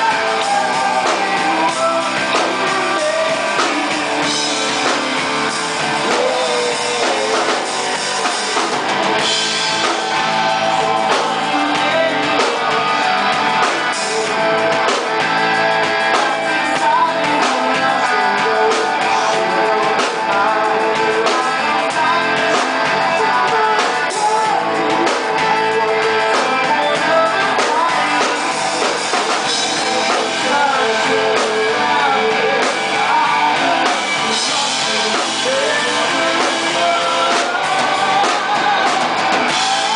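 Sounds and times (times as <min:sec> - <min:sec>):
drum kit: 0:00.0 - 0:39.9
electric bass: 0:00.0 - 0:39.9
electric guitar: 0:00.0 - 0:39.9
person singing: 0:00.0 - 0:39.9.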